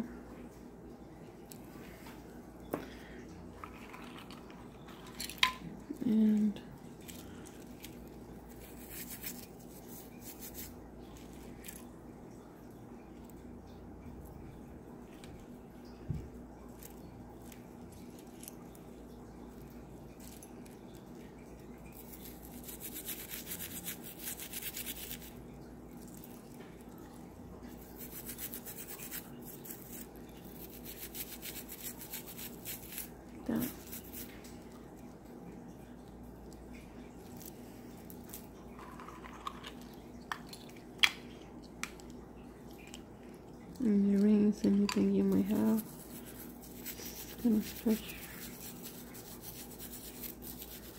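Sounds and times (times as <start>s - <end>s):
soft squishing of wet hands: 0.0s - 50.9s
rubbing jewellery in water: 3.5s - 11.9s, 16.6s - 41.0s, 41.7s - 50.9s.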